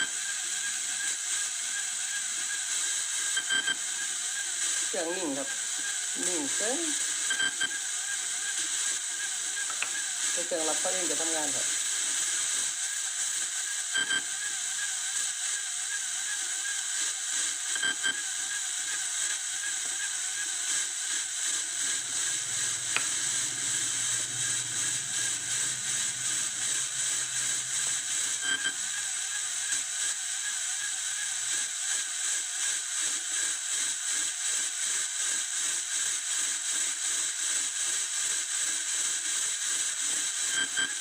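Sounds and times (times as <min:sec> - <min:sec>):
static hiss: 0:00.0 - 0:15.6, 0:16.2 - 0:41.0.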